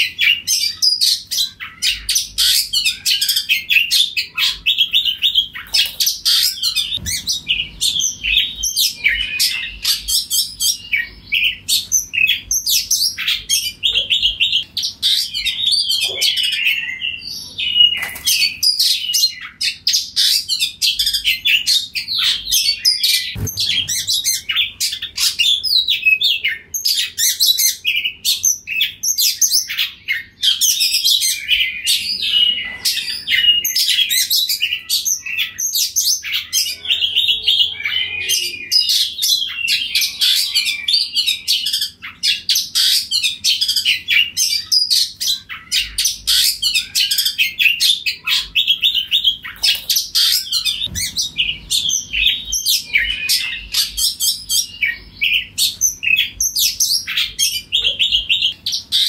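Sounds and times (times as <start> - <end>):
bird singing chirps and whistles: 0.0 - 59.0.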